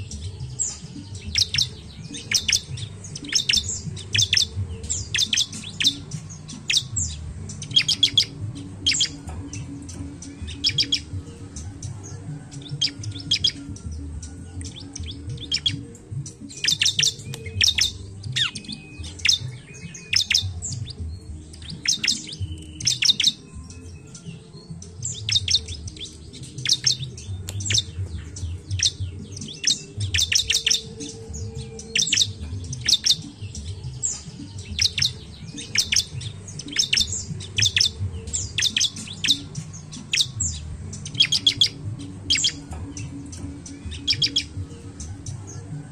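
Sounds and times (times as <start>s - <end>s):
bird chip notes: 0.0s - 45.9s.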